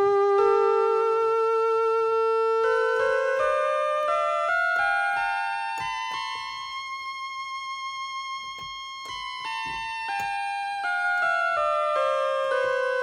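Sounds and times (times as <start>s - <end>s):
keyboard melody: 0.0s - 13.0s.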